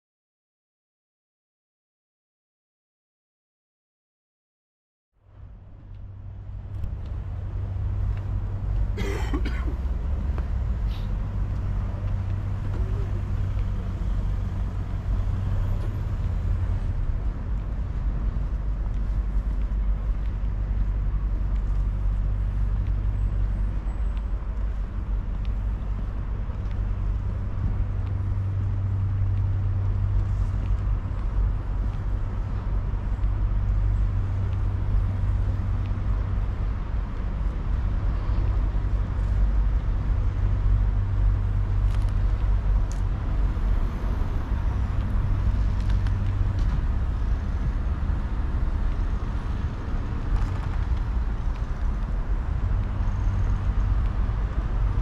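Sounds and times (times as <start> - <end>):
engines rumbling: 5.2 - 55.0.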